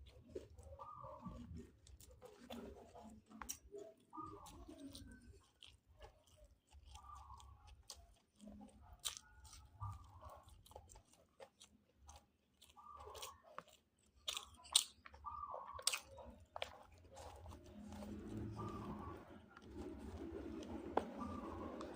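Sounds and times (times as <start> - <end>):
person chewing crunchy food: 0.0 - 21.9.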